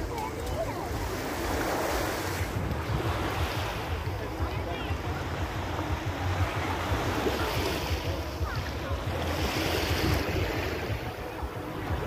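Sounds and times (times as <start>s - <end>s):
small waves washing on shore: 0.0s - 12.0s
wind buffeting microphone: 0.0s - 12.0s.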